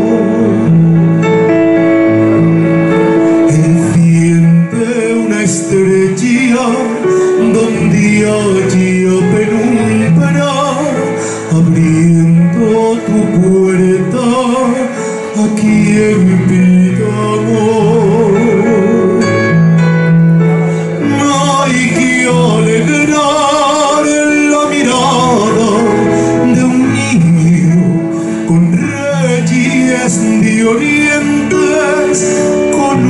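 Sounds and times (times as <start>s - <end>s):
man singing into microphone: 0.0s - 1.3s, 2.3s - 33.0s
electronic keyboard: 0.0s - 33.0s.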